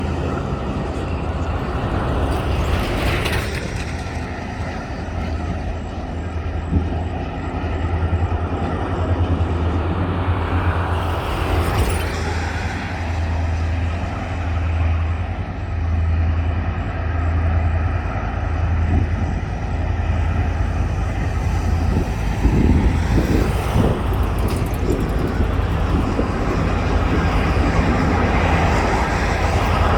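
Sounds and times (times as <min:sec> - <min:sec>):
diesel locomotives rumbling: 0:00.0 - 0:29.9.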